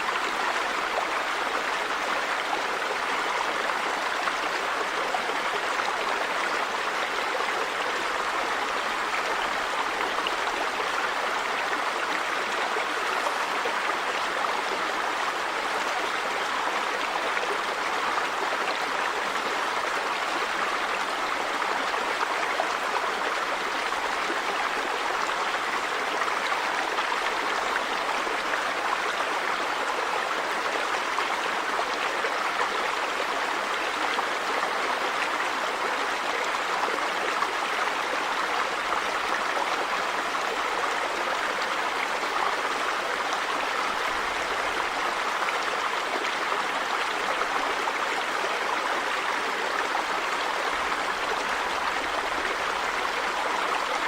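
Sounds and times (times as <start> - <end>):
river water over rocks: 0.0 - 54.0.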